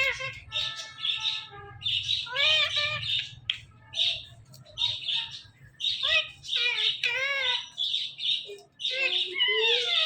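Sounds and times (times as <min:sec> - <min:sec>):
parrot squawky chirps: 0:00.0 - 0:03.4, 0:04.8 - 0:10.0.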